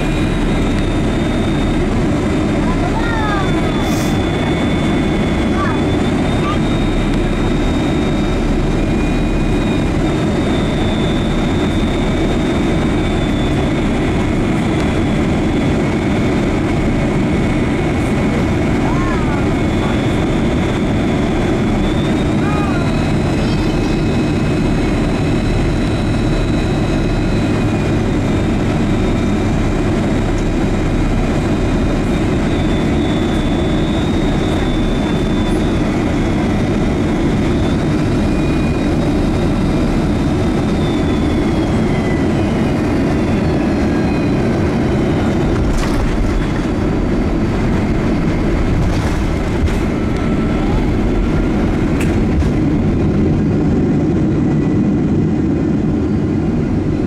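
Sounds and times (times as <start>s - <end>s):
jet roar in cabin: 0.0s - 57.0s.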